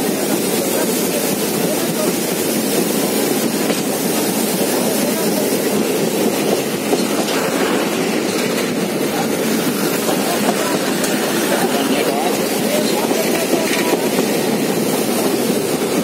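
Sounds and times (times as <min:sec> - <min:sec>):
hiss: 0:00.0 - 0:16.0
train wheels rumbling on rails: 0:00.0 - 0:16.0.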